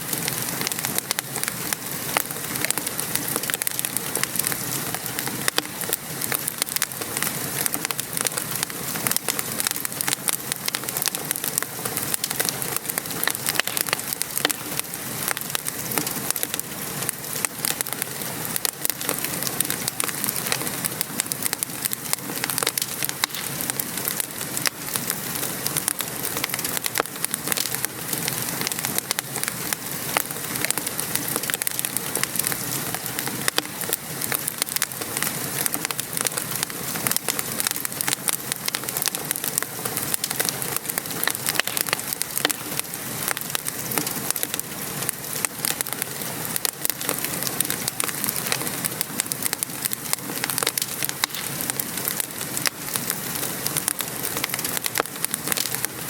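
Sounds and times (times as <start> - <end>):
rain pattering: 0.0 - 56.0
wood fire crackling: 0.0 - 56.0.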